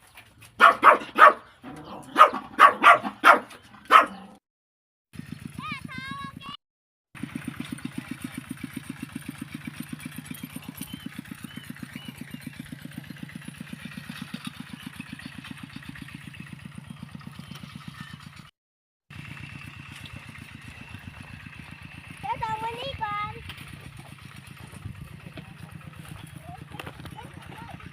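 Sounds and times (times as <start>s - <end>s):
small engine running: 0.0s - 4.1s, 5.2s - 6.6s, 7.2s - 18.5s, 19.1s - 27.9s.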